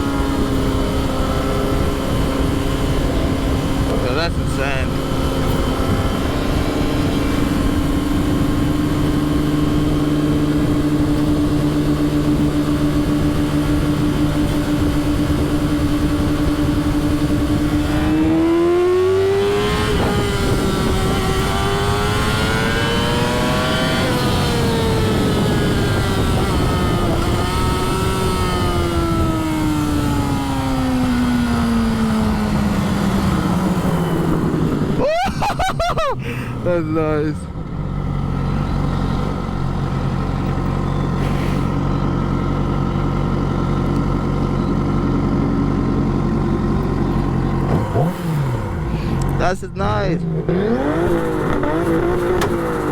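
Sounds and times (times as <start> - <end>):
vehicle engine revving: 0.0 - 52.9.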